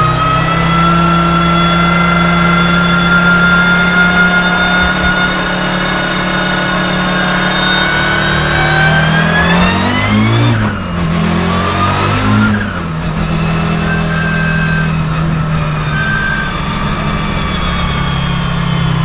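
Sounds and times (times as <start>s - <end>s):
high turbo whine: 0.0s - 19.0s
turbocharged race car engine revving: 0.0s - 19.0s.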